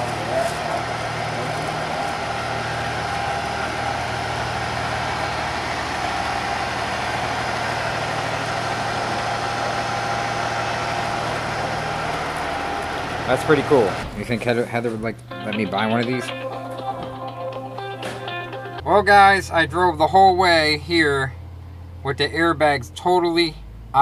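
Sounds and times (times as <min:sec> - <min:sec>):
diesel engine idling: 0:00.0 - 0:16.7, 0:17.3 - 0:24.0.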